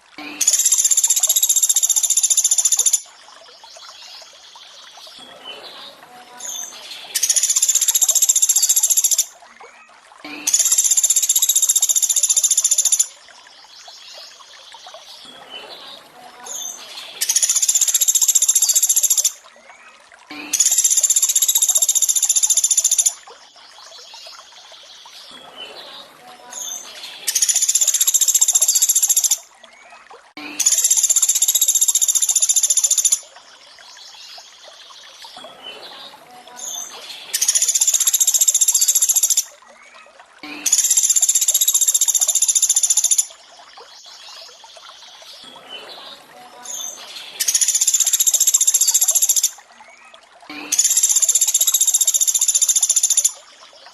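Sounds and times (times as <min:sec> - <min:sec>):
running water: 0:00.0 - 0:53.9.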